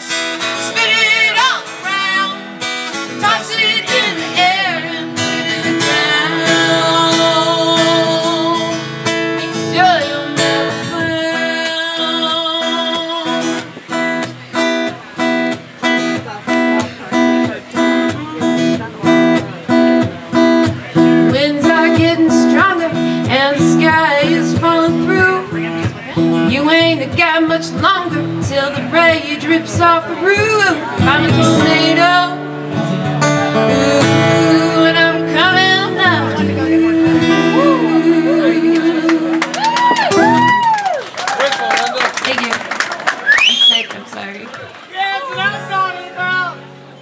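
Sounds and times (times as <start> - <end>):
acoustic guitar chords: 0.0 - 40.6.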